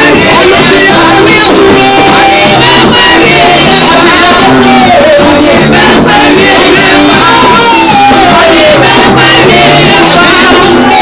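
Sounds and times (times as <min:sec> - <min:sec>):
keyboard with steady beat: 0:00.0 - 0:11.0
people singing: 0:00.0 - 0:11.0.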